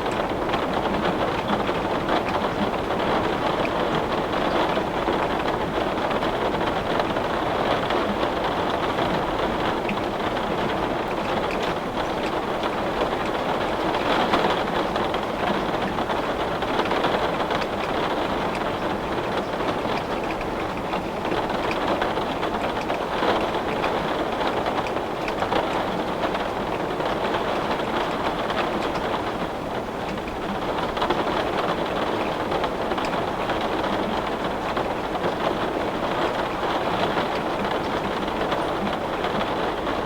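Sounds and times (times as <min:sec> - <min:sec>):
heavy rain on a window pane: 0:00.0 - 0:40.0.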